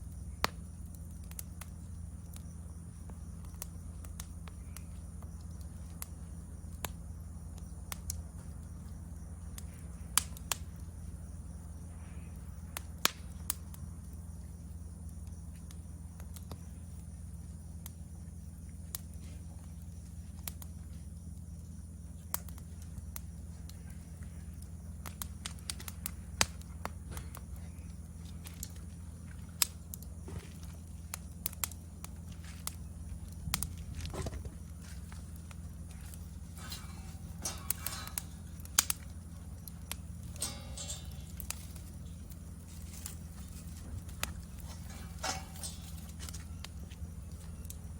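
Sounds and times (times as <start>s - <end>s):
campfire crackling and popping: 0.0s - 47.9s
insects chirring: 0.0s - 47.9s.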